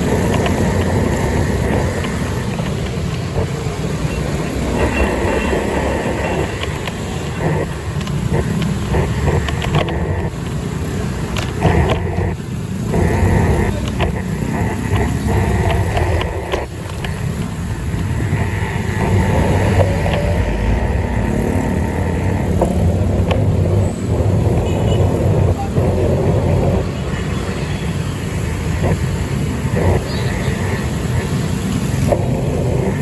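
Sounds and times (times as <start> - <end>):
wind and road rumble: 0.0 - 33.0.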